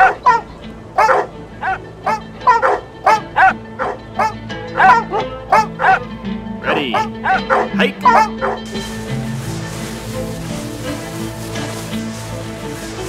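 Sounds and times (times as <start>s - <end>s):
sled dogs barking: 0.0s - 11.1s.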